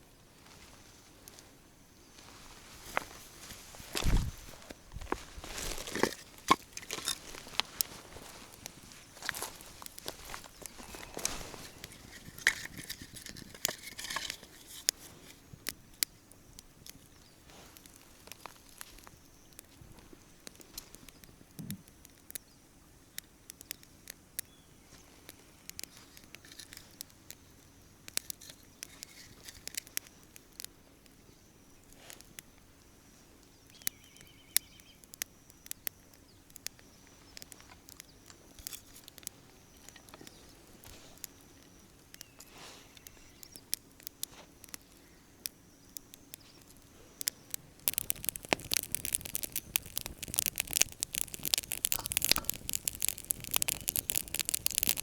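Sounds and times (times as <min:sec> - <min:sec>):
campfire crackling and popping: 0:00.1 - 0:55.0.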